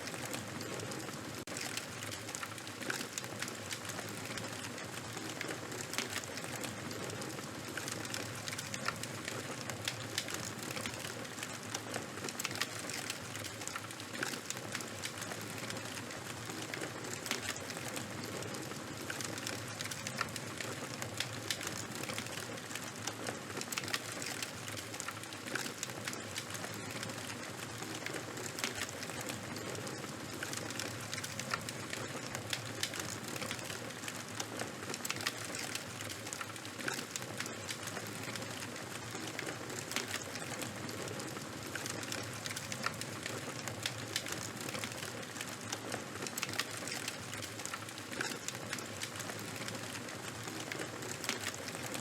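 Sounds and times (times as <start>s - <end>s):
fire hissing and crackling: 0.0s - 52.0s.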